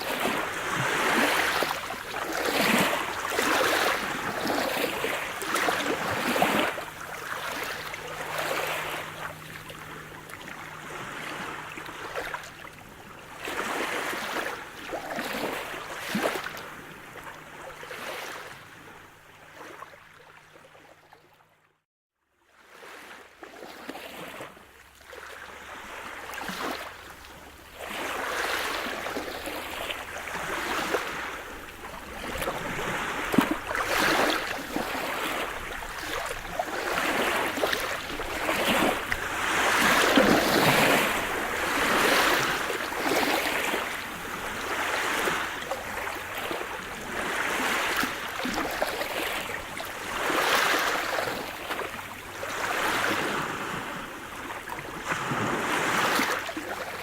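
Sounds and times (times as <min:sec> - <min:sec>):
sea waves washing in: 0:00.0 - 0:18.9, 0:25.5 - 0:57.0.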